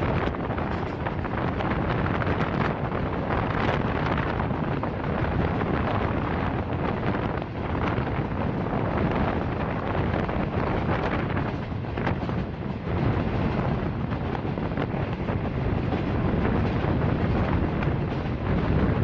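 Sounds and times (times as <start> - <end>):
passenger train rumbling: 0.0 - 19.0
wind buffeting microphone: 0.0 - 19.0.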